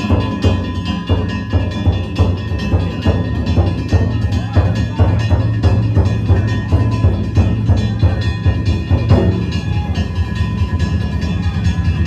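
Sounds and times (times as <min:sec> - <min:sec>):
ringing gongs: 0:00.0 - 0:12.0
taiko drums beating: 0:00.0 - 0:12.0.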